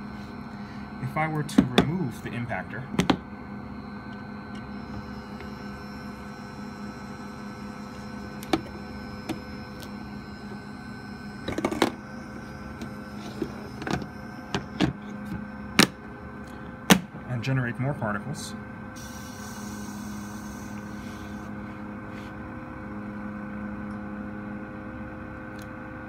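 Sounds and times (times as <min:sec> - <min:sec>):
small air pump humming: 0:00.0 - 0:26.0.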